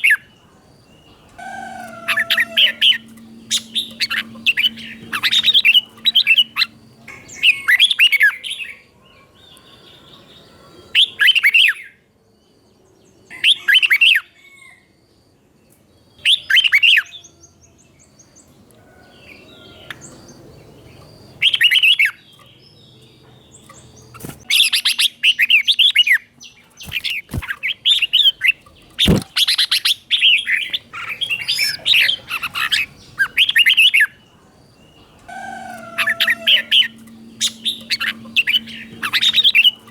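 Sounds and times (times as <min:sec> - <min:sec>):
bird singing warbled phrases: 0:00.0 - 0:12.0, 0:16.0 - 0:18.5, 0:19.3 - 0:39.9.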